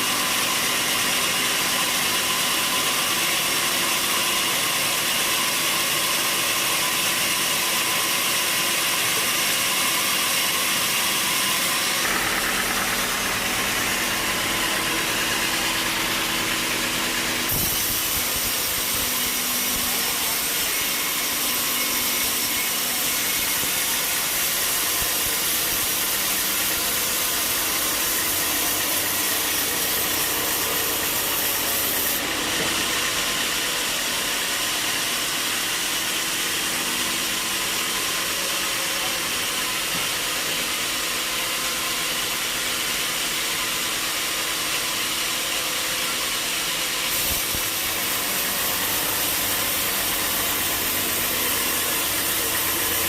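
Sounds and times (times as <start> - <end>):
saw blade cutting log: 0.0 - 53.0.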